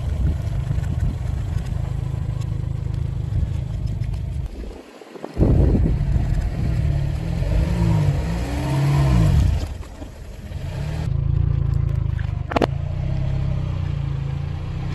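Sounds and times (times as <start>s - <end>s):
car engine running: 0.0s - 4.5s, 5.4s - 14.9s.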